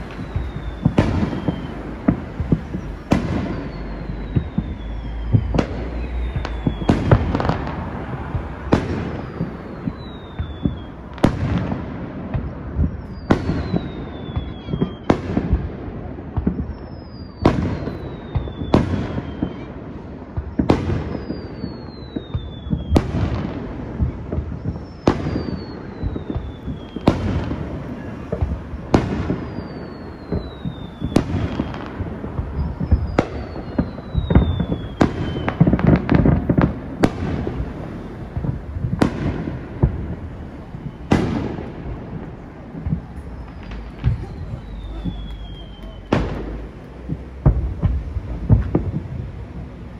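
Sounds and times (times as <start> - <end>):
falling firework whistle: 0.0 - 49.9
firework bangs with echo: 0.0 - 49.9.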